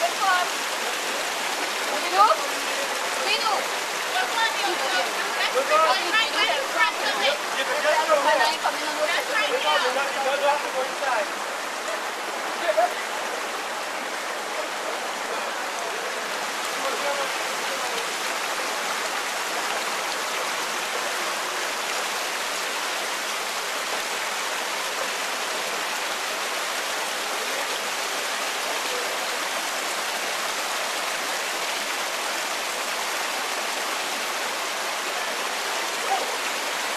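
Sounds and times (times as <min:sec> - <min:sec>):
stream rushing over rocks: 0:00.0 - 0:36.9.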